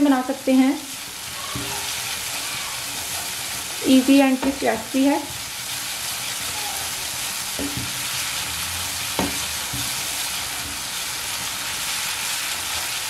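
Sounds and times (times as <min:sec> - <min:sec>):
spice paste sizzling in oil: 0:00.0 - 0:13.0.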